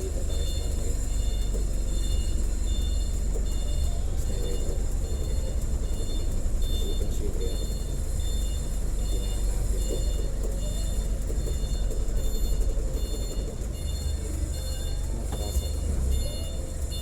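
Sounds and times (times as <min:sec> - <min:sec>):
reversing alarm beeping: 0:00.0 - 0:17.0
truck diesel engine rumbling: 0:00.0 - 0:17.0.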